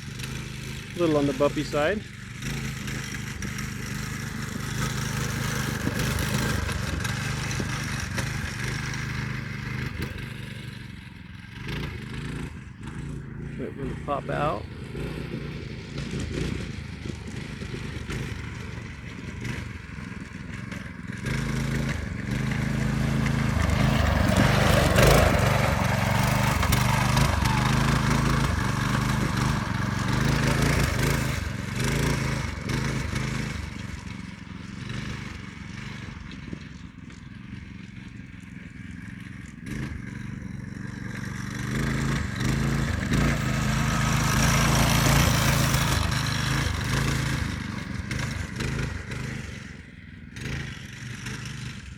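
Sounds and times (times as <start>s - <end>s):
go-kart engine running: 0.0s - 51.9s.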